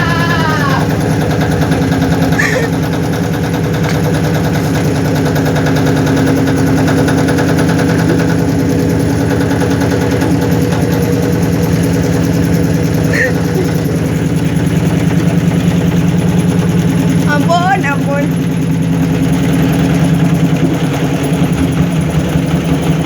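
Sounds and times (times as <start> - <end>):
washing machine spin cycle rattling: 0.0 - 23.0.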